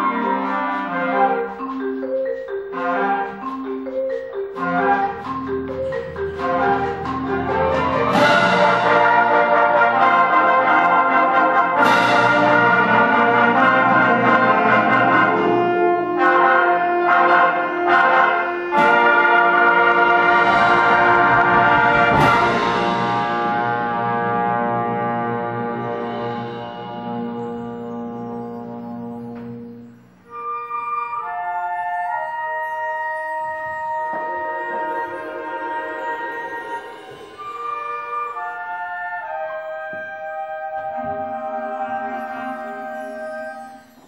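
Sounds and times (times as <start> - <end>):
mallet percussion notes: 0.0 - 44.0
wind band playing chord: 6.3 - 30.5, 32.6 - 43.9.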